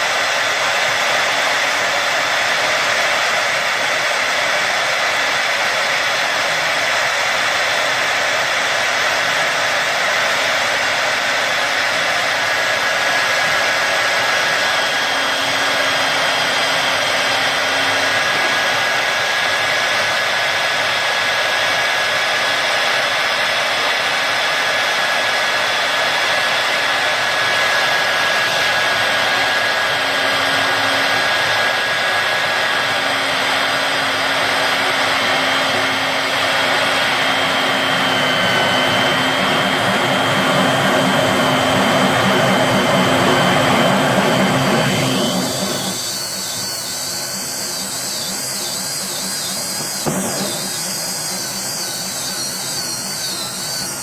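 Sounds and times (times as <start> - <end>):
magnetic drill whining: 0.0 - 54.0.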